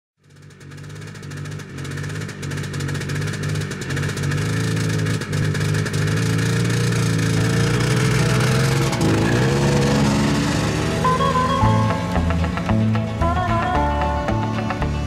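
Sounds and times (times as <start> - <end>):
snowmobile engine running: 0.3 - 15.0.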